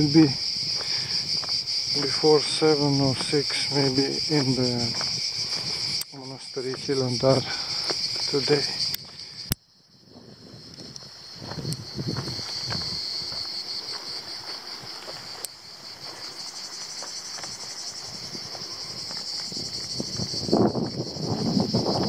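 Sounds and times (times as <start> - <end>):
footsteps crunching on gravel: 0.0 - 9.2, 10.8 - 21.5
cicadas buzzing: 0.0 - 22.0.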